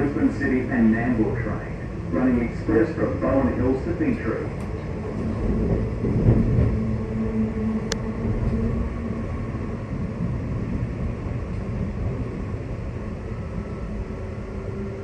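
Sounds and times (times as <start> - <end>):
steady low tone: 0.0 - 15.0
train rumbling from inside: 0.0 - 15.0.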